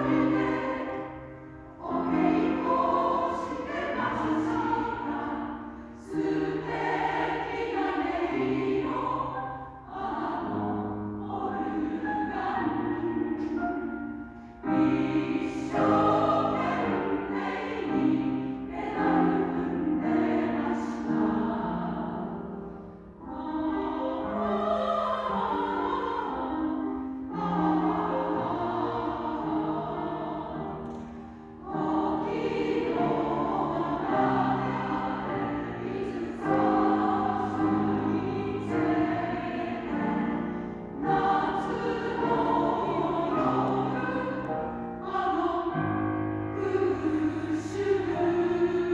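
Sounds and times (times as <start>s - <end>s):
choirs singing: 0.0s - 48.9s.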